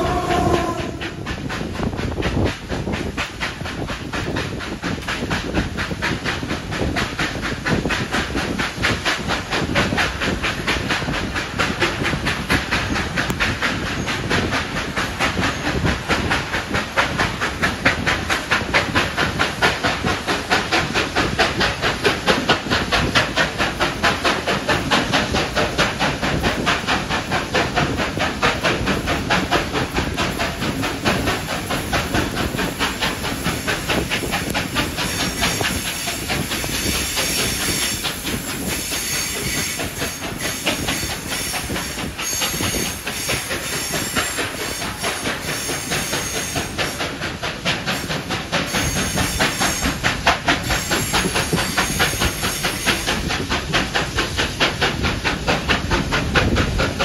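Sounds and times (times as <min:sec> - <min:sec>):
steam hissing: 0:00.0 - 0:57.0
steam locomotive exhaust beat: 0:00.0 - 0:57.0
wheels on rails: 0:00.0 - 0:57.0.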